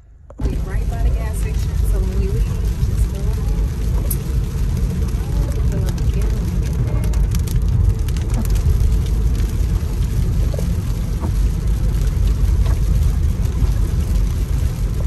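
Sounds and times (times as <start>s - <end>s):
tyre and engine rumble: 0.0s - 15.0s.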